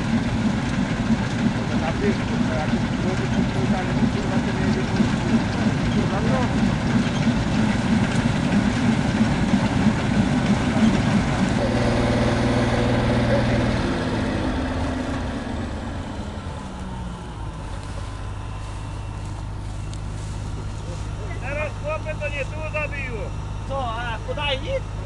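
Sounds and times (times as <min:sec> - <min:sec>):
combine harvester engine running: 0:00.0 - 0:25.0.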